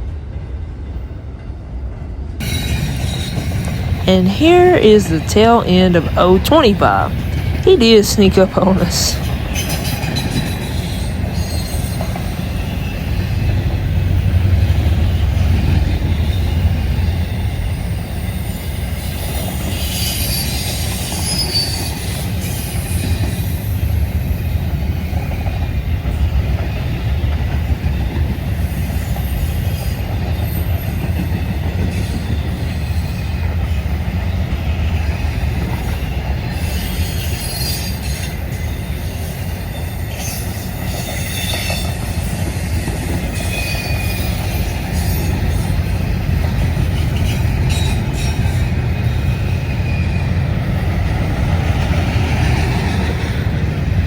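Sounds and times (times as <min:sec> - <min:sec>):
train wheels rumbling on rail: 0:00.0 - 0:04.5, 0:09.2 - 0:54.0.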